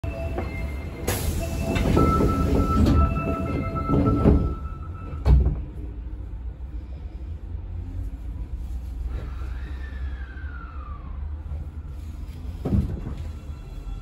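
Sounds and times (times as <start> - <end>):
subway car rumble and whine: 0.0 - 14.0.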